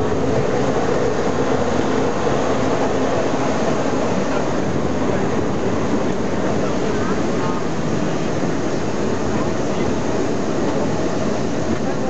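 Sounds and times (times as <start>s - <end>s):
railcar rumble: 0.0s - 12.0s.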